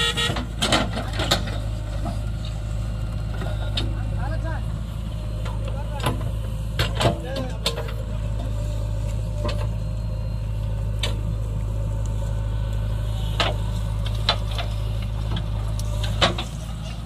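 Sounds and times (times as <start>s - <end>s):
backhoe loader working: 0.0s - 17.0s
tractor engine idling: 0.0s - 17.0s.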